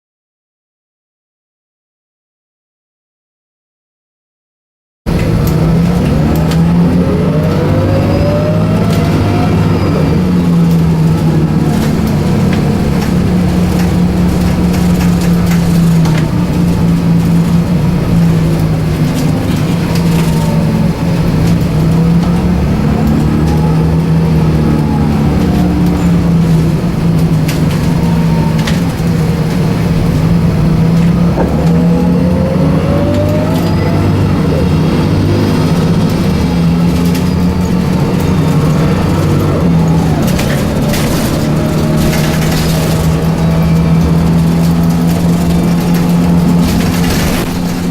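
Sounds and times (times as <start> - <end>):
bus engine running: 5.1 - 47.9
whine rising in pitch: 5.1 - 47.9.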